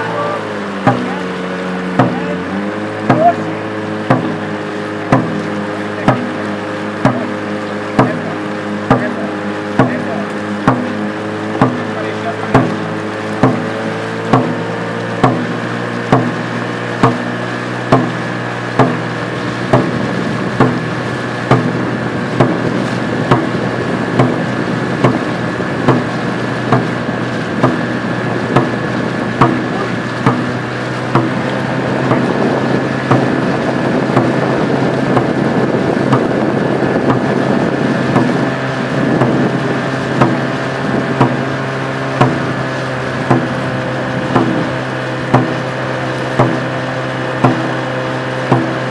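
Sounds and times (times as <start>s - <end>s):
drum beating steadily: 0.0s - 48.9s
loud rushing noise: 0.0s - 48.9s
motorboat engine hum: 0.0s - 48.9s.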